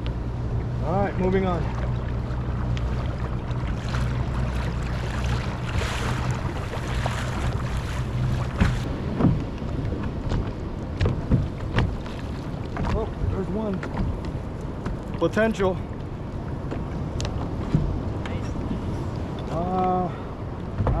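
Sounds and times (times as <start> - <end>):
boat motor running: 0.0 - 21.0
wind and water noise: 0.0 - 21.0.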